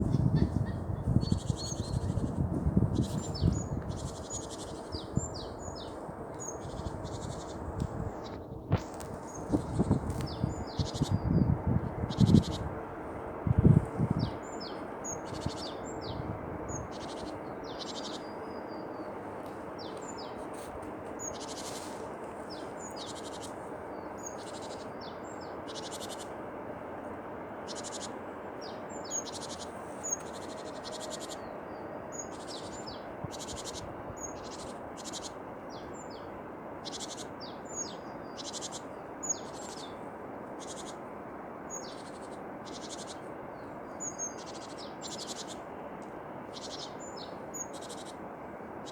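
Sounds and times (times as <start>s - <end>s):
tits singing and calling: 0.0s - 12.7s, 13.6s - 26.6s, 27.3s - 48.9s
low background rush: 0.0s - 48.9s.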